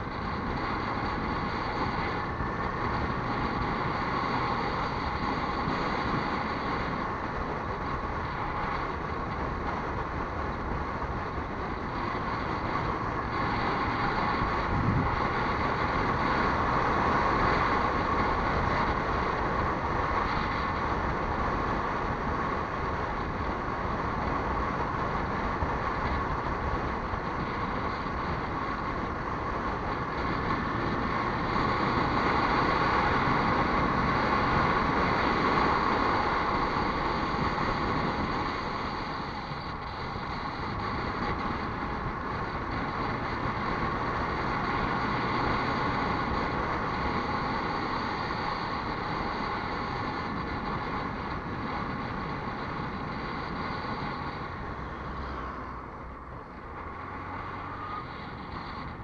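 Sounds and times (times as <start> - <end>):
road vehicle running noise: 0.0 - 59.0
wind rush: 0.0 - 59.0.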